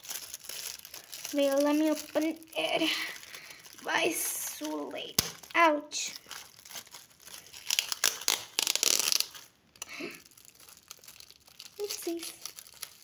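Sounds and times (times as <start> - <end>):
foil gift wrap tearing and crinkling: 0.0 - 13.0.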